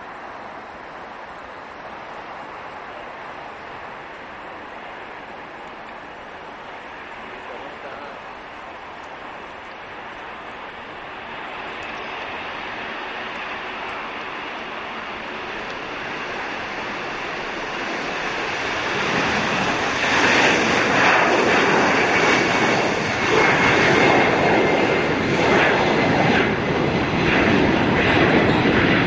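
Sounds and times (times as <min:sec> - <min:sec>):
jet engines roaring at takeoff: 0:00.0 - 0:29.0.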